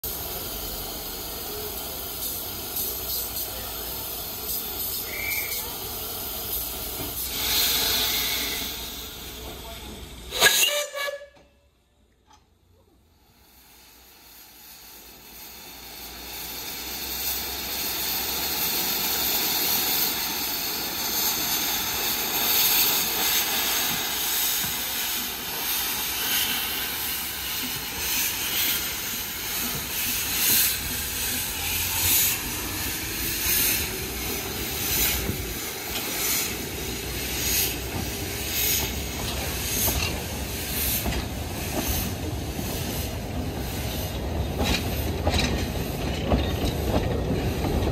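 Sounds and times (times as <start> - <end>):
loud hiss of steam: 0.0 - 11.3, 13.0 - 47.9
steam locomotive exhaust chuffs: 0.0 - 11.4, 13.2 - 47.9.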